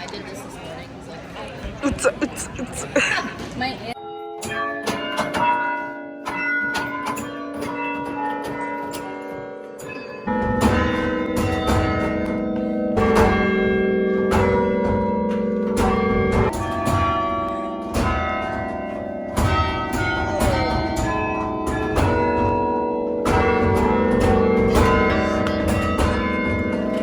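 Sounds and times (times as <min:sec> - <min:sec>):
bells chiming a slow melody: 0:04.0 - 0:27.0.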